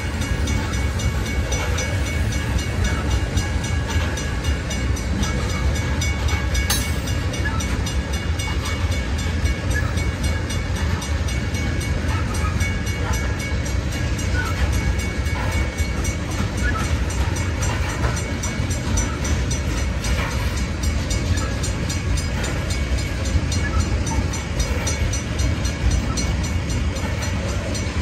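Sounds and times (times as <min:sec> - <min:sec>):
freight train rolling past: 0:00.0 - 0:28.0.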